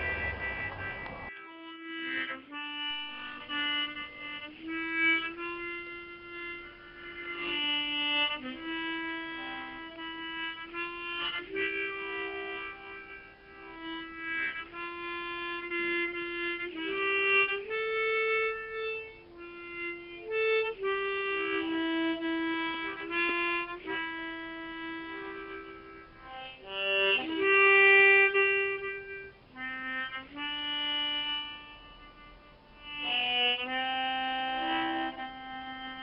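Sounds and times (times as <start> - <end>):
harmonica melody: 0.0 - 36.0.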